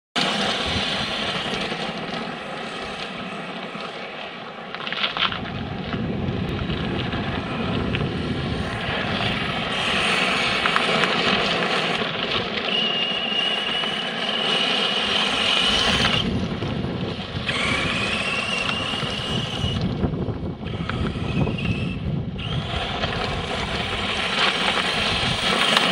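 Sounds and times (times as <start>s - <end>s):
model truck motor whining: 0.2s - 5.3s, 6.9s - 25.9s
tyres crunching on gravel: 0.2s - 20.1s, 22.5s - 25.9s.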